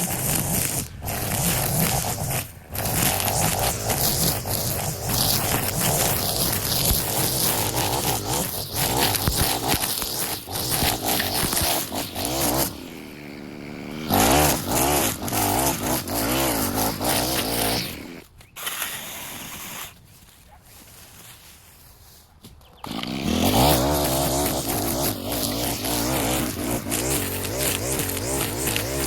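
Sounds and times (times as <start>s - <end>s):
small petrol engine running: 0.0s - 19.3s, 22.8s - 29.0s.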